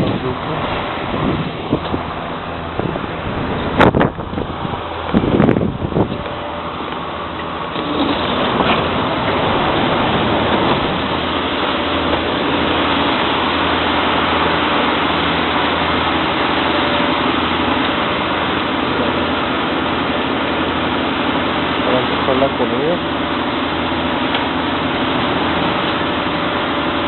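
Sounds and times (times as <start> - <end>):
low hum: 0.0 - 27.0
machinery droning: 0.0 - 27.0.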